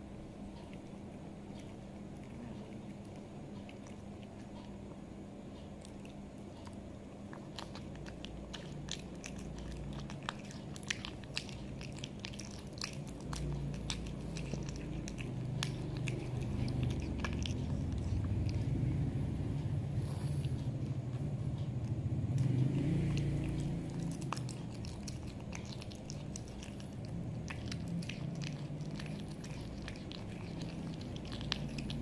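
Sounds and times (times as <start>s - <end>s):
cat licking and chewing: 0.0s - 32.0s.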